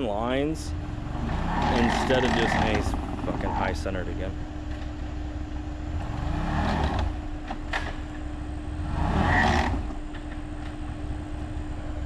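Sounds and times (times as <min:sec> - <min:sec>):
buggy engine revving: 0:00.0 - 0:08.0, 0:08.6 - 0:10.3
engine idling: 0:00.0 - 0:12.0.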